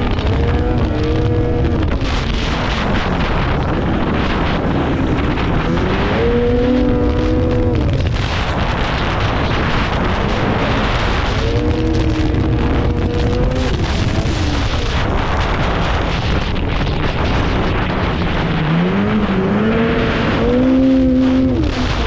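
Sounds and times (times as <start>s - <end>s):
snowmobile engine running: 0.0s - 22.0s
steady rushing noise: 0.0s - 22.0s.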